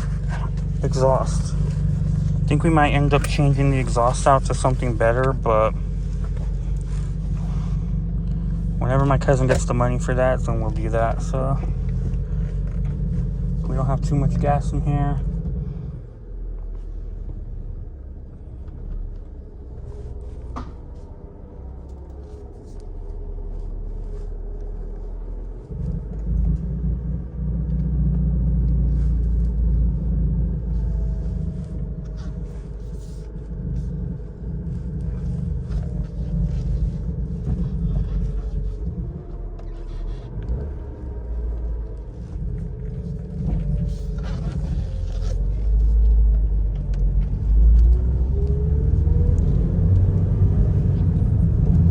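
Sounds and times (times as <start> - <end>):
car engine drone from cabin: 0.0 - 51.9.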